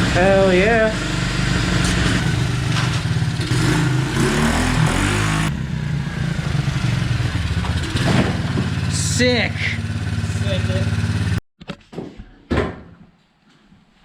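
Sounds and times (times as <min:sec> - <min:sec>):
motorbike engine running: 0:00.0 - 0:11.4.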